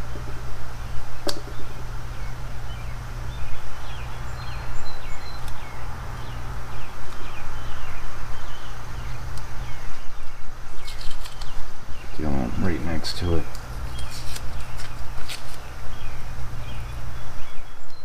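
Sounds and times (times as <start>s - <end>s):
small bird chirping: 0.8s - 18.0s.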